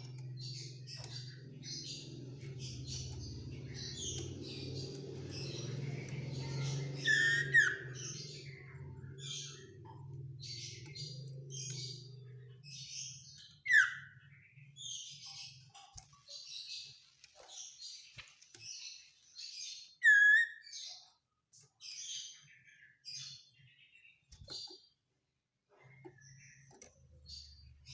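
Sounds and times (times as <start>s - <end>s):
bird chirps and trills: 0.0s - 27.9s.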